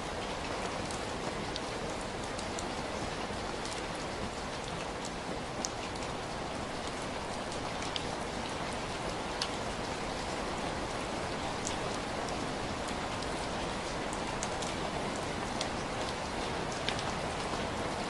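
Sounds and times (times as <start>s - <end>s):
raindrops tapping a surface: 0.1s - 18.0s.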